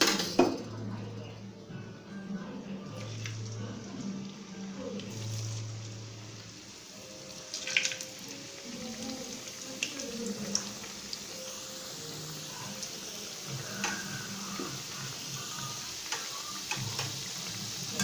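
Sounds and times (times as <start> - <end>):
hot oil sizzling and bubbling: 3.0 - 18.0.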